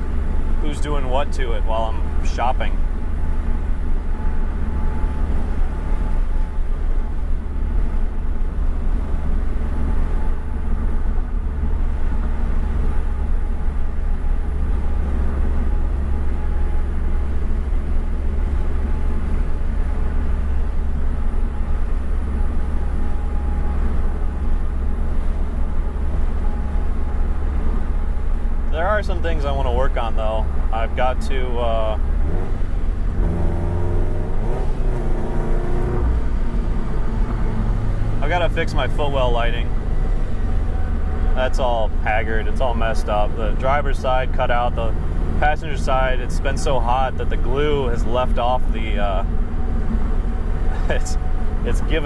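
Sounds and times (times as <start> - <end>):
car engine cruising: 0.0 - 52.0
low road noise rumble: 0.0 - 52.0.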